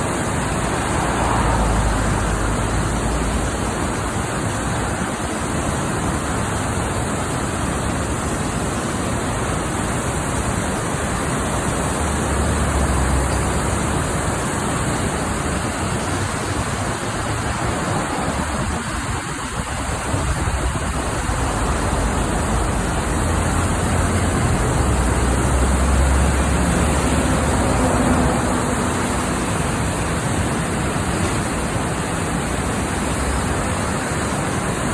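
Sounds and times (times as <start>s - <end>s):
floodwater rushing: 0.0s - 34.9s.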